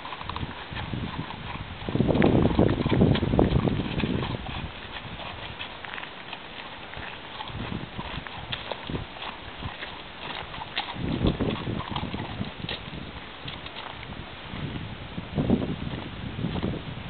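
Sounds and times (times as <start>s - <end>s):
horse hooves clip-clopping: 0.0s - 17.0s.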